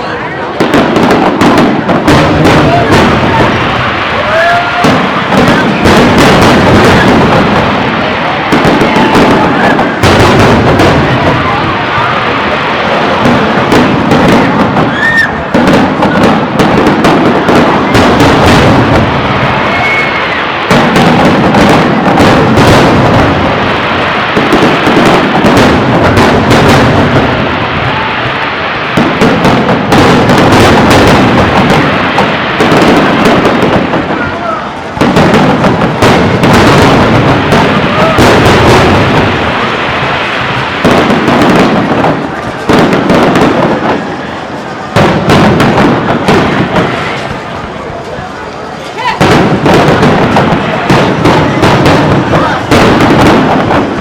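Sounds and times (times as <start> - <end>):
firework whistle: 0.0 - 47.5
fireworks bangs and crackles: 0.0 - 54.0.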